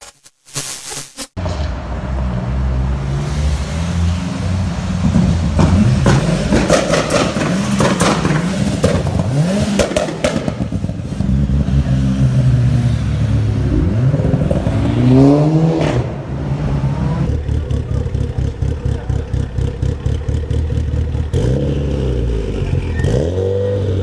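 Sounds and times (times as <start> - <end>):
car engine revving: 1.4 - 24.0
exhaust cracks: 3.2 - 23.4.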